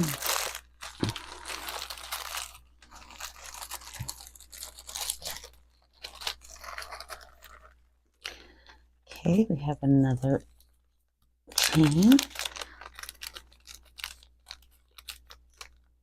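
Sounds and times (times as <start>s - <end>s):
plastic baggie crinkling: 0.0s - 10.7s, 11.5s - 16.0s.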